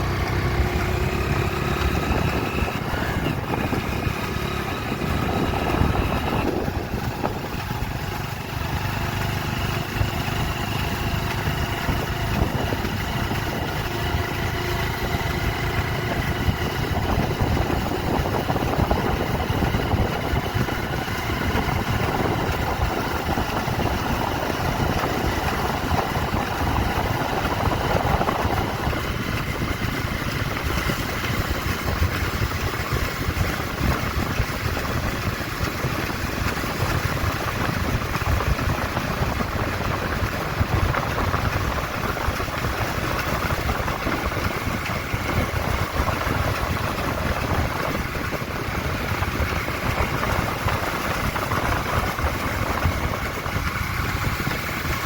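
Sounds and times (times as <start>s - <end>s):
noisy rumble: 0.0s - 55.0s
vehicle engine running: 0.0s - 55.0s.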